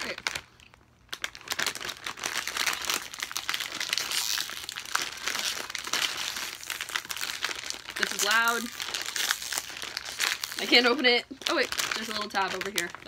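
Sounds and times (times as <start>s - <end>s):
snack bag crinkling: 0.0s - 13.0s.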